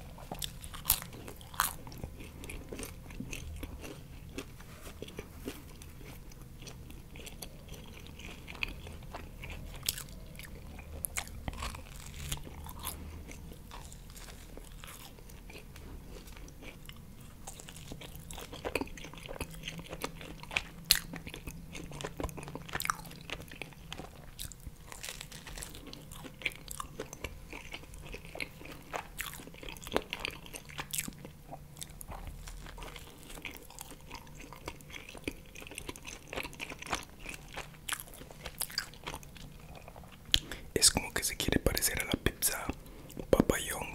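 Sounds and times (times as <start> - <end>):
person chewing pizza: 0.0 - 43.9.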